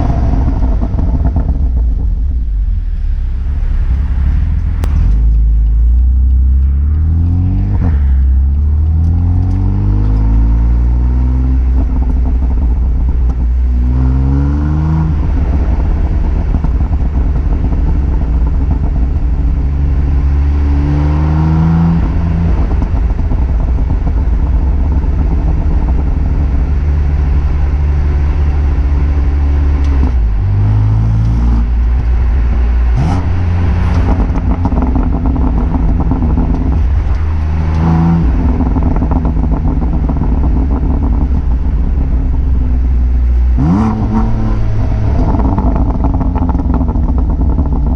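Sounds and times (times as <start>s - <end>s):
car engine revving: 0.0s - 47.9s
exhaust cracks: 0.0s - 47.9s.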